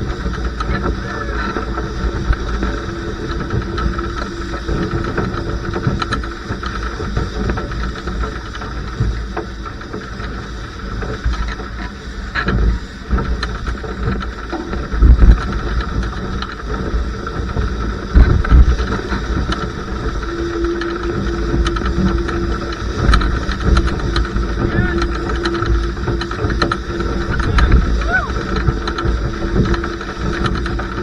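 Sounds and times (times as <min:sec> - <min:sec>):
steady hum: 0:00.0 - 0:31.0
water rushing past hull: 0:00.0 - 0:31.0
wind buffeting microphone: 0:00.0 - 0:31.0.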